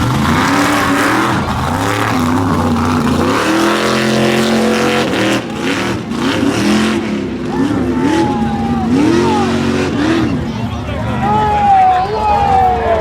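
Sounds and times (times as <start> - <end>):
truck engine revving: 0.0 - 11.6.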